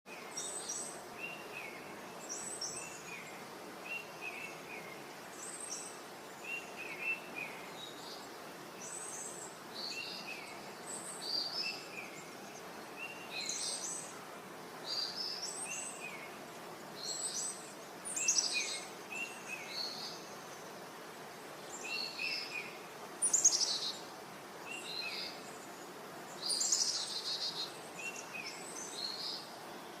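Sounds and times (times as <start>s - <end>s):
background hiss: 0.1s - 30.0s
birds chirping: 0.1s - 30.0s.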